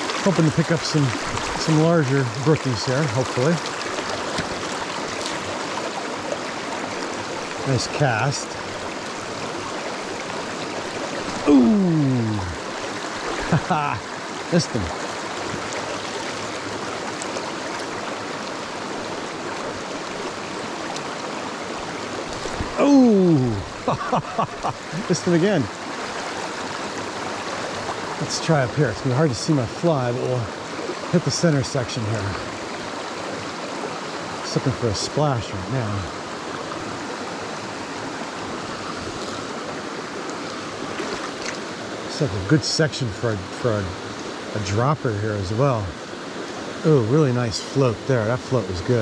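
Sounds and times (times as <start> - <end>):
stream rushing over rocks: 0.0 - 49.0.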